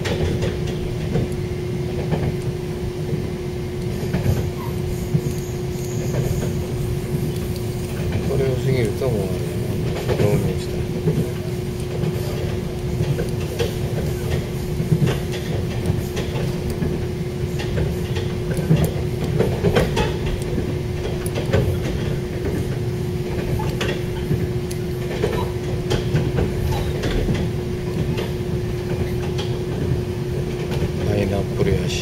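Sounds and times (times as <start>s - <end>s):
constant hum: 0.0s - 32.0s
train running rumble: 0.0s - 32.0s
wheels clicking on track: 0.0s - 32.0s.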